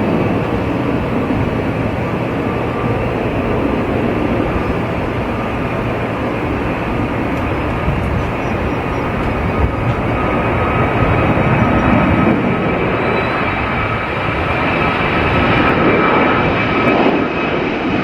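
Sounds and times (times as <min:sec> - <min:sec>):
jet engine whine: 0:00.0 - 0:18.0
jet engines rumbling: 0:00.0 - 0:18.0.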